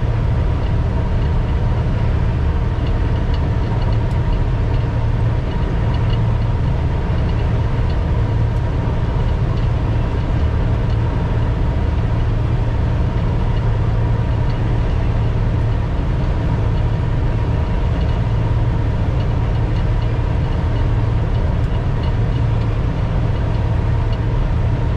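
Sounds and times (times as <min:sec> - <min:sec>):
low engine drone: 0:00.0 - 0:24.9.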